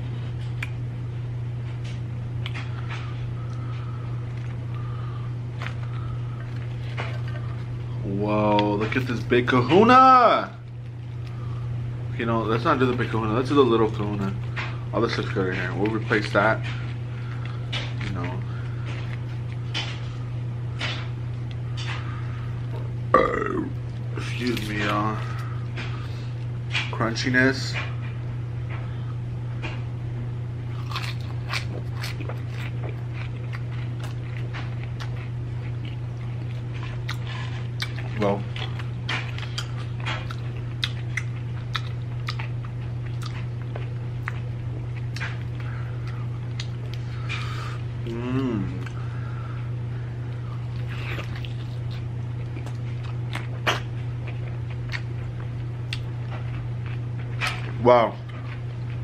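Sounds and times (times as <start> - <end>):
crunching and chewing fried chicken: 0.0 - 59.0
steady low hum: 0.0 - 59.0.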